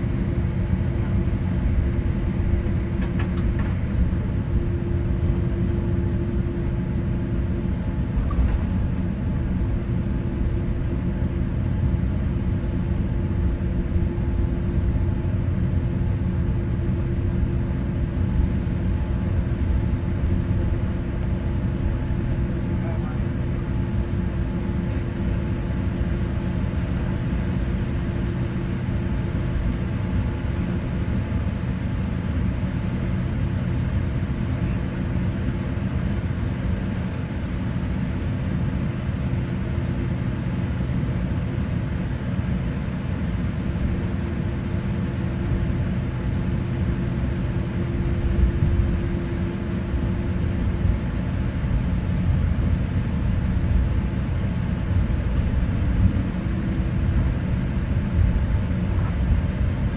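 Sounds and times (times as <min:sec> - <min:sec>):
low drone of idling engines: 0:00.0 - 0:59.9.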